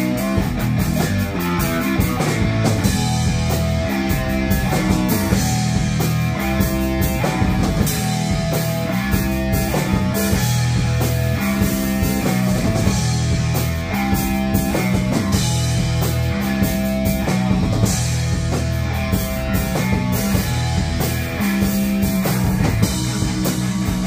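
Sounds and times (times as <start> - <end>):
drum kit and cymbal hits: 0.0 - 24.0
electric guitars strumming chords: 0.0 - 24.0.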